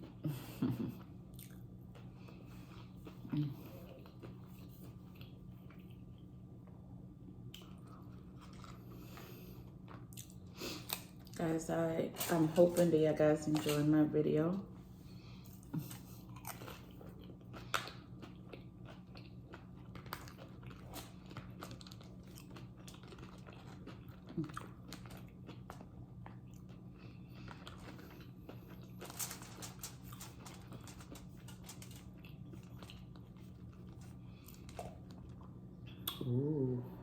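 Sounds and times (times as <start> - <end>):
person chewing food: 0.0 - 6.8, 7.4 - 11.4, 15.1 - 36.4
steady low hum: 0.0 - 37.0.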